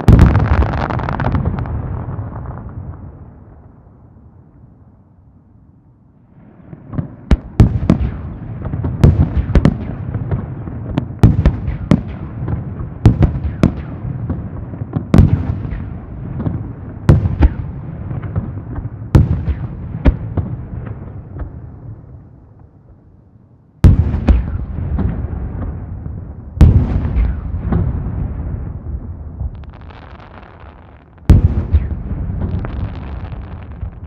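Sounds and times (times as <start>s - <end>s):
fireworks bangs: 0.0s - 3.2s, 6.4s - 21.7s, 23.8s - 34.0s.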